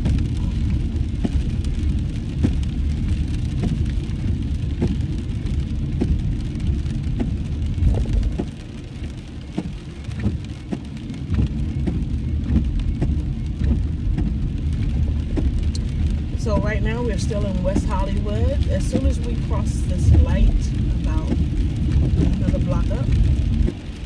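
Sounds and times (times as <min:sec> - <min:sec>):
rain drops on car windshield: 0:00.0 - 0:24.0
road noise rumble: 0:00.0 - 0:24.0.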